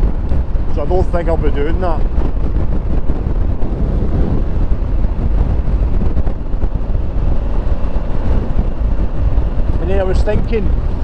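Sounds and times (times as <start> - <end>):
motorcycle road noise: 0.0 - 11.0
wind rush: 0.0 - 11.0.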